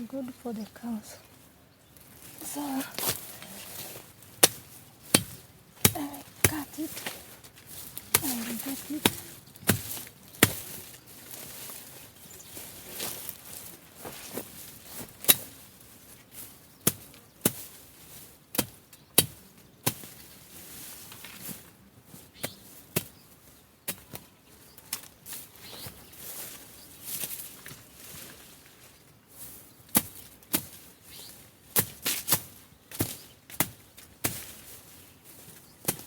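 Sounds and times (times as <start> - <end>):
blade chopping weeds and stalks: 2.1 - 21.6, 22.3 - 28.6, 29.4 - 36.0.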